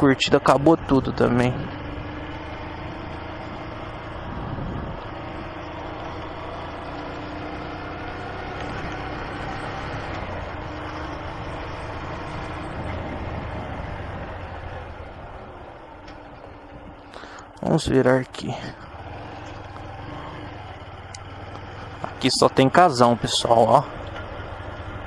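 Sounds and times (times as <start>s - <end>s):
motorcycle engine cruising: 0.0s - 25.0s
road and wind noise: 0.0s - 25.0s.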